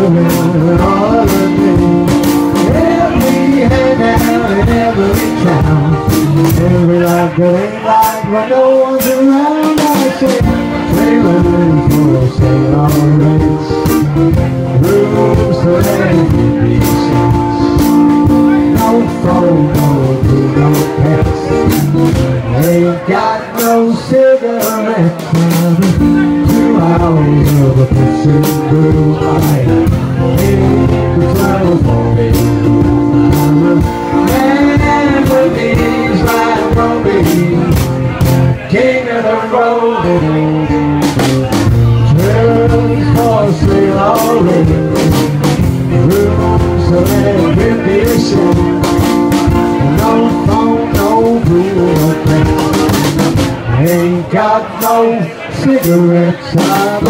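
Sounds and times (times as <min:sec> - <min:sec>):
drum kit beat: 0:00.0 - 0:39.4, 0:40.0 - 0:57.0
man singing: 0:00.0 - 0:57.0
strummed acoustic guitar: 0:00.0 - 0:57.0.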